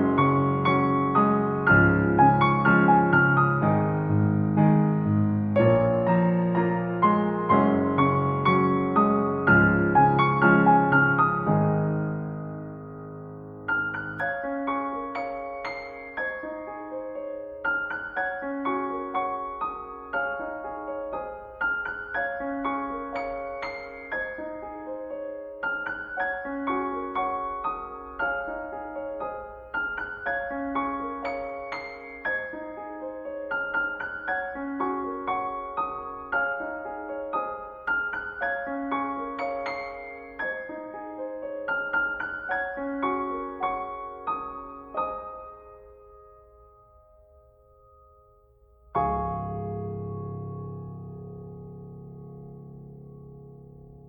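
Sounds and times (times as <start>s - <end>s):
slow gentle piano music: 0.0s - 54.0s.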